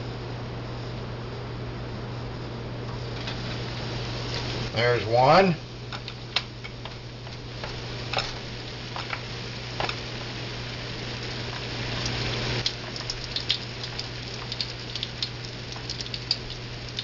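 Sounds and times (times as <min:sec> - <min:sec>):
sausage deep-frying in oil: 0:03.0 - 0:17.0.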